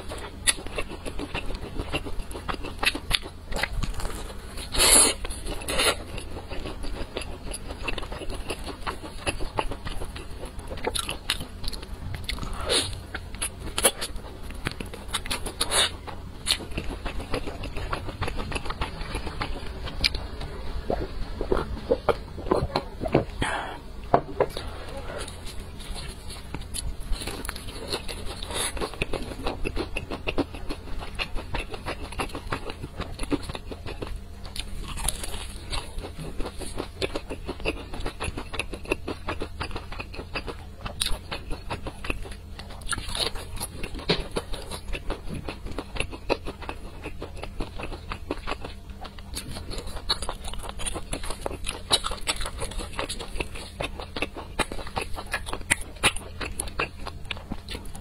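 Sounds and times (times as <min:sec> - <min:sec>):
chewing crispy fried chicken: 0:00.0 - 0:23.7, 0:24.5 - 0:58.0.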